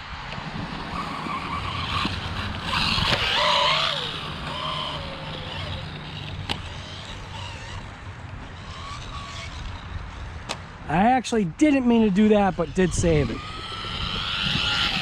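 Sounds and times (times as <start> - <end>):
electric motor whining: 0.8 - 10.6, 11.9 - 15.0.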